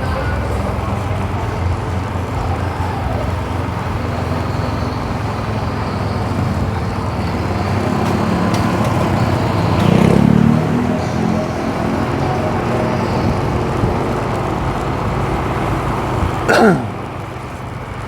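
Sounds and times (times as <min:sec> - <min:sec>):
motorbike engine running: 0:00.0 - 0:18.0
road and traffic noise: 0:00.0 - 0:18.0.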